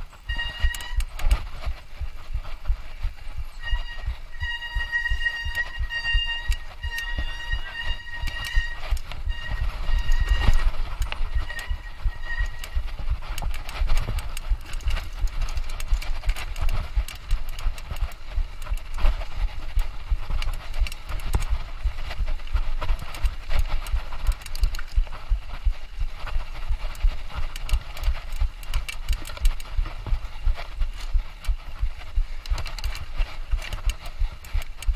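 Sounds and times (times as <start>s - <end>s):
bike rattling over bumps: 0.0s - 34.9s
choppy low rumble: 0.0s - 34.9s.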